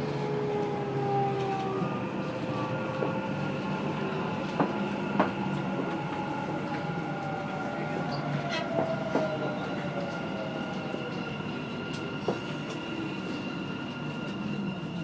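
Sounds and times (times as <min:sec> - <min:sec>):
train rumble and motor whine: 0:00.0 - 0:15.0.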